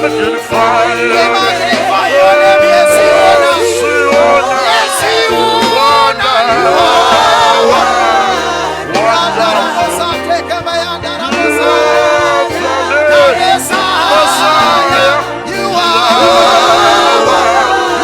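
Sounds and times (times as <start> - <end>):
bass and keyboard backing: 0.0 - 18.0
voices singing gospel: 0.0 - 18.0.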